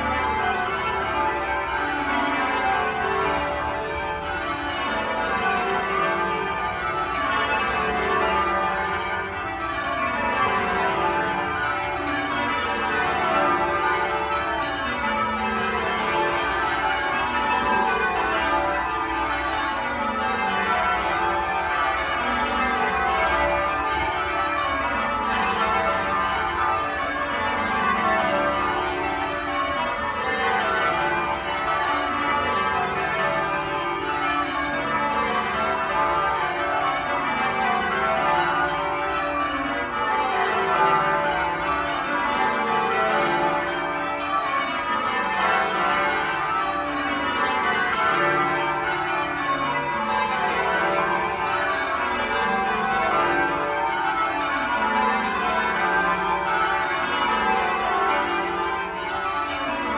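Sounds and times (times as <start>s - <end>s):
church bells change-ringing: 0.0s - 59.9s.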